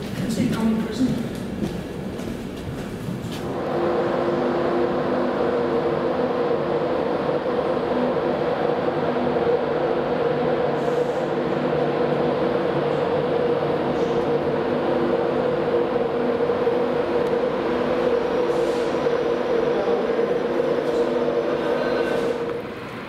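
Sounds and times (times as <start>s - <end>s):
electric locomotive humming: 0.0s - 23.0s.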